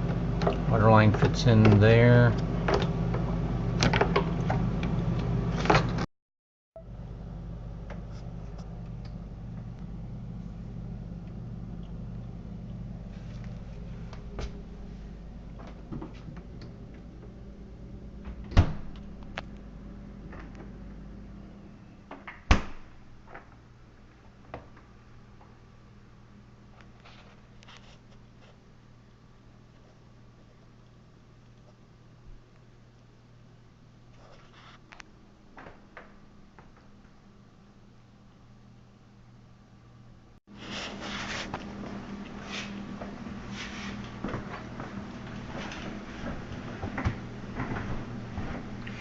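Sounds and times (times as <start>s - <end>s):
low mains hum: 0.0s - 6.1s, 6.8s - 49.0s.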